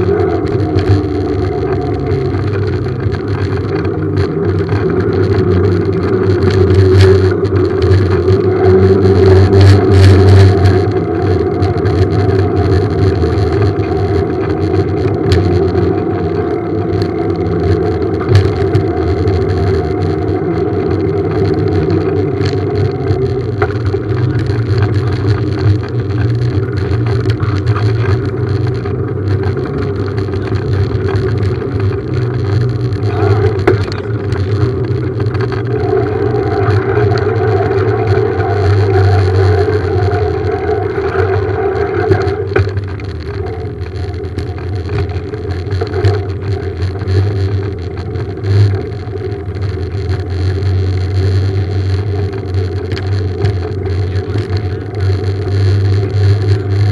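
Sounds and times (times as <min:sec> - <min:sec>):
road and wind noise: 0:00.0 - 0:56.9
small motorbike engine: 0:00.0 - 0:56.9.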